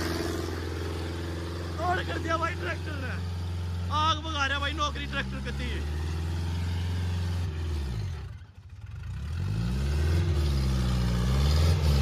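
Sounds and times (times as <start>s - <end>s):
tractor diesel engine labouring: 0.0s - 12.0s.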